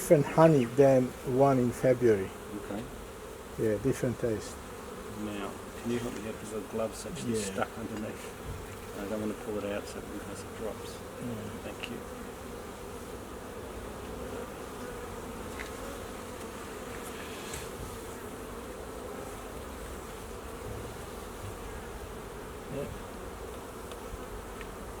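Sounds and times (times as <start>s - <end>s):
honey bees buzzing: 0.0s - 25.0s.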